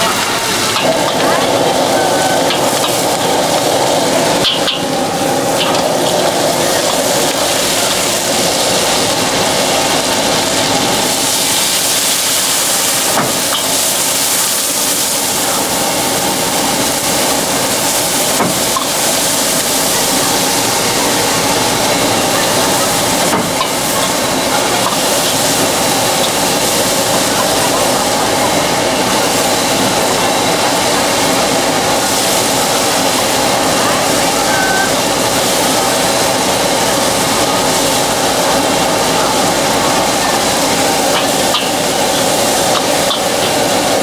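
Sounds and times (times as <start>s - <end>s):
food sizzling in a wok: 0.0s - 44.0s
gas flame hissing: 0.0s - 44.0s.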